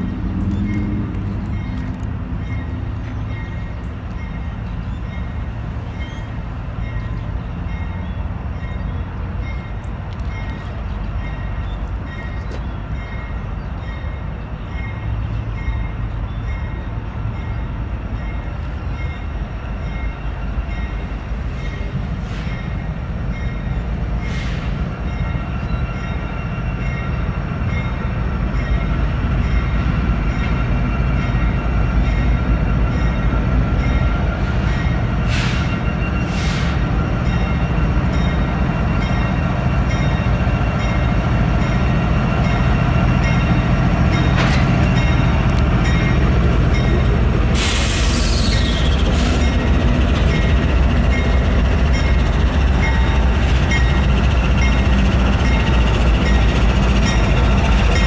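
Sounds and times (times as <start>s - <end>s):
locomotive bell ringing: 0.0s - 36.4s, 37.2s - 47.4s, 48.5s - 58.0s
diesel locomotives rumbling: 0.0s - 58.0s.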